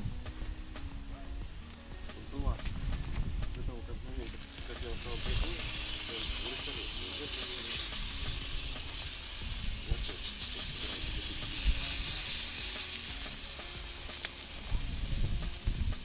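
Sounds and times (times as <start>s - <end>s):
fish sizzling on a grill: 0.0s - 16.0s.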